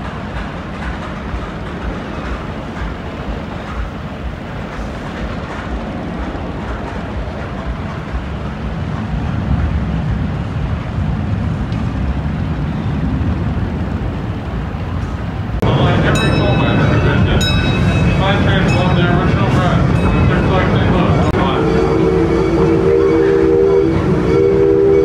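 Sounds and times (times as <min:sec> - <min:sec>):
roller coaster train rumbling: 0:00.0 - 0:25.0.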